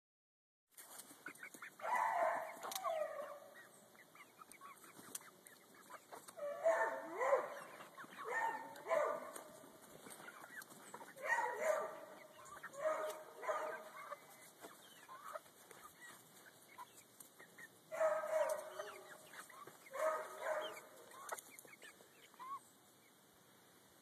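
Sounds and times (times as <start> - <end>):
hens clucking and calling: 0.8 - 23.0.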